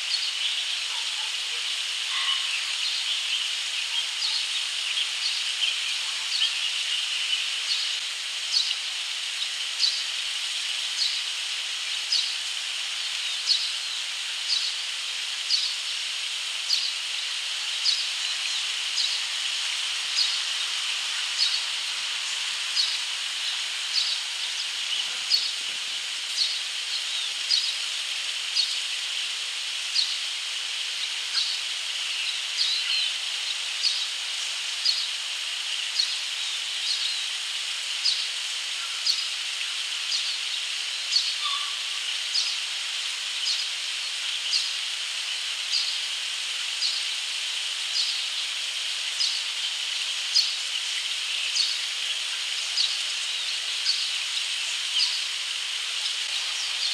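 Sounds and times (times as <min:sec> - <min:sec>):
steady high hiss: 0:00.0 - 0:56.9.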